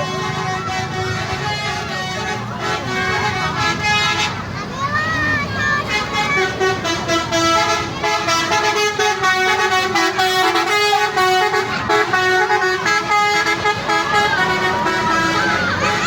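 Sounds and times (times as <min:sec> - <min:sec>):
multi-tone bus horn playing a tune: 0:00.0 - 0:04.7, 0:05.4 - 0:16.0.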